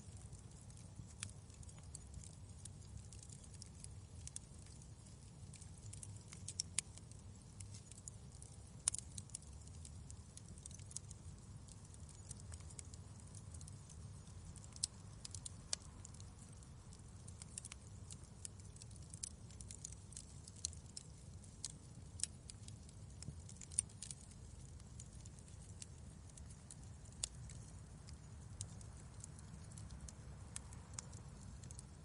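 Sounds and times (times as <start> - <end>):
fire crackling and popping: 0.0 - 32.0
low fire rumble: 0.0 - 32.0.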